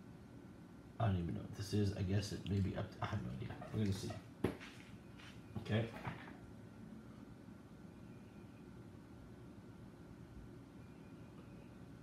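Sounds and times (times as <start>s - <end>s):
faint low room hum: 0.0s - 12.0s.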